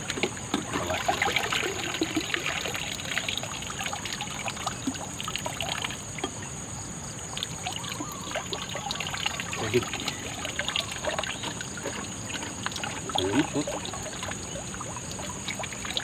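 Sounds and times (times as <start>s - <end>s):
water trickling and pouring: 0.0s - 6.6s, 7.2s - 16.0s.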